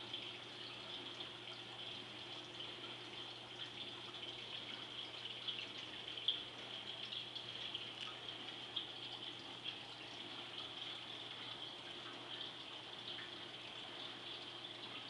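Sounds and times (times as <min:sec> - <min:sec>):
aquarium water trickling and splashing: 0:00.0 - 0:15.0
low steady hum: 0:00.0 - 0:15.0.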